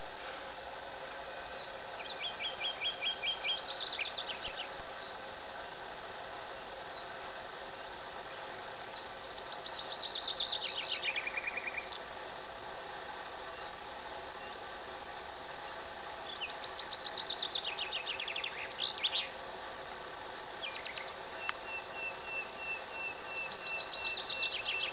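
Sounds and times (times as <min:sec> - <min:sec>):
nightingale singing: 0:00.0 - 0:24.9.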